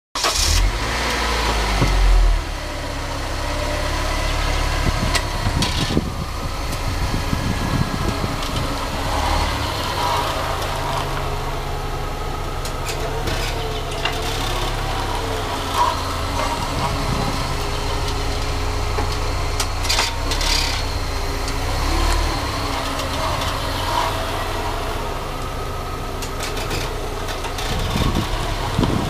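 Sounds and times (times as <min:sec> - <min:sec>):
car engine humming: 0:00.2 - 0:29.0
exhaust pipe rattling: 0:00.2 - 0:29.0.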